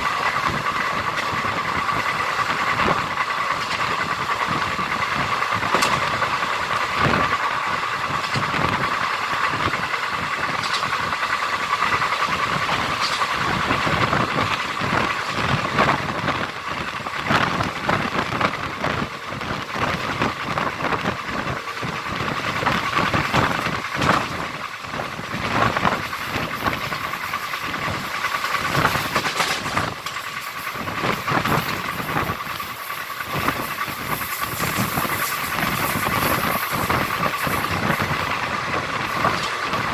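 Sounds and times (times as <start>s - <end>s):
track knocks and clatter: 0.0s - 39.9s
train wheels on rails: 0.0s - 39.9s.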